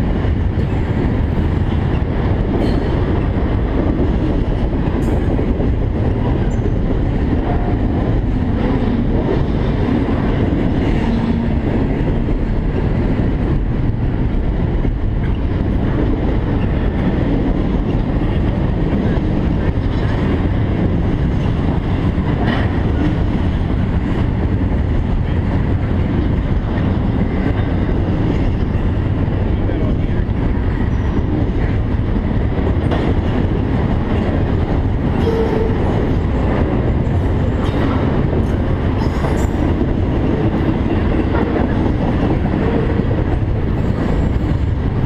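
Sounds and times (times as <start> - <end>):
freight train rumbling on track: 0.0 - 45.0
rail joint clicks: 0.0 - 45.0.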